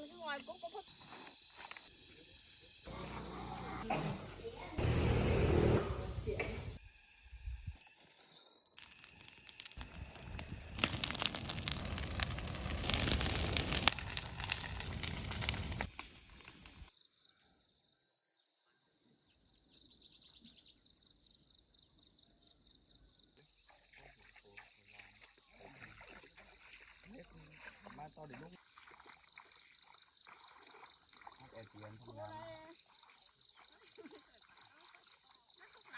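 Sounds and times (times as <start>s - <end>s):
insects buzzing with high trill: 0.0s - 3.8s, 6.6s - 18.6s, 20.6s - 35.9s.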